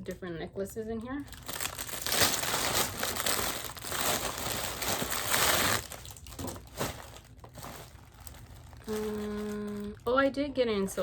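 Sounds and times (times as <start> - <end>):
packaging crinkling and rustling: 1.0 - 11.0.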